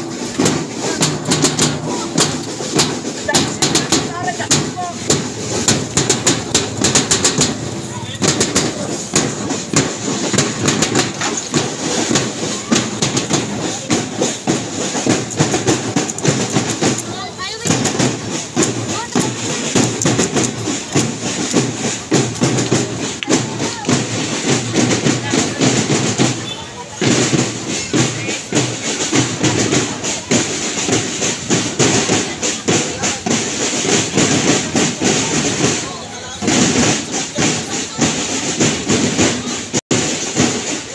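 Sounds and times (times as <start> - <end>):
drum beating marching rhythm: 0.0 - 40.9
rapid irregular clacking: 0.0 - 40.9
street crowd noise: 0.0 - 40.9.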